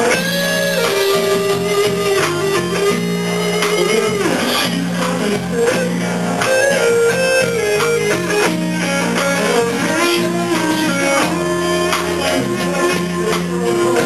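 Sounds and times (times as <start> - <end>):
electric guitar melody: 0.0 - 14.0
steady bass line: 0.0 - 14.0.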